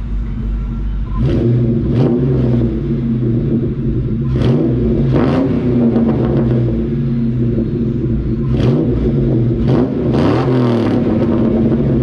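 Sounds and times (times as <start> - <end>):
car engine revving: 0.0 - 12.0
engine throttle blips: 0.0 - 12.0.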